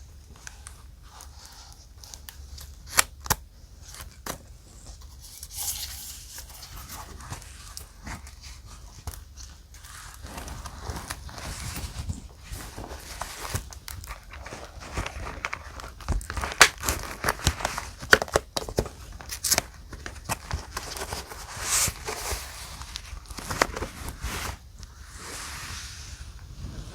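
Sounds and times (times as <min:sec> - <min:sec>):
paper rustling and crinkling: 0:03.8 - 0:26.9.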